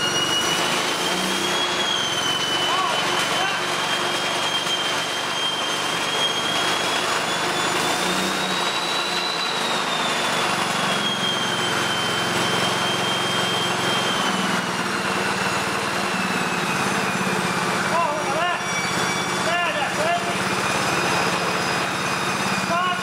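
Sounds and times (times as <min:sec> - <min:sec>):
high whine: 0:00.0 - 0:23.0
petrol engine running: 0:00.0 - 0:23.0.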